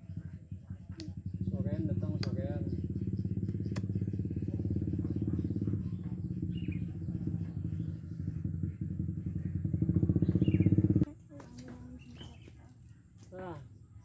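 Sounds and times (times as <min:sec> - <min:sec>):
small engine running: 0:00.0 - 0:12.5.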